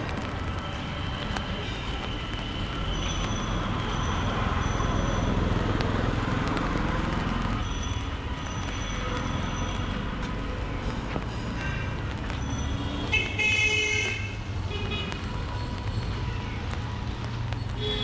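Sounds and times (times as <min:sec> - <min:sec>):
rain: 0:00.0 - 0:18.0
vehicle traffic noise: 0:00.0 - 0:18.0.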